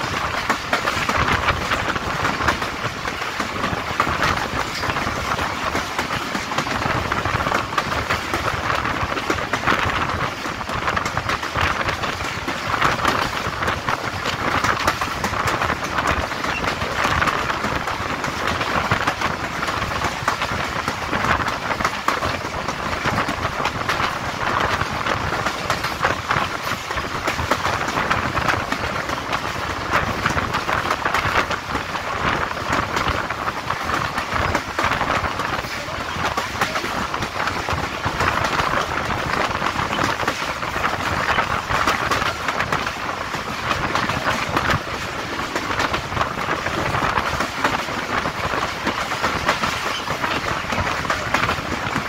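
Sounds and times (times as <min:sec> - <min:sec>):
train wheels rushing on rails: 0:00.0 - 0:52.0.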